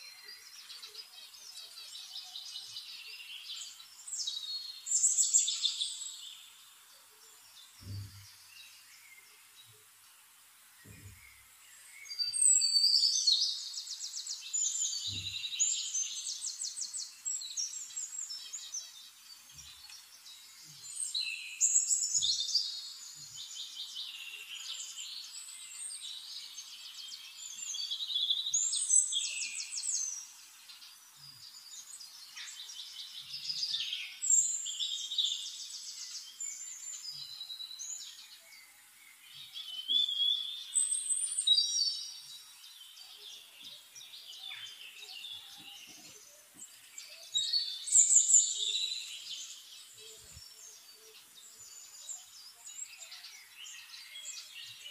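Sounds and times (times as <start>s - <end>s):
songbird trilling and chirping: 0.0s - 9.5s, 10.8s - 54.9s.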